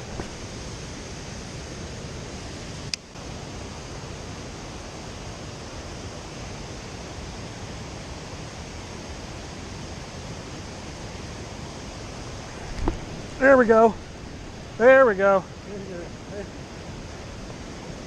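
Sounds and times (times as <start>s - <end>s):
waterfall and river rushing: 0.0s - 18.0s.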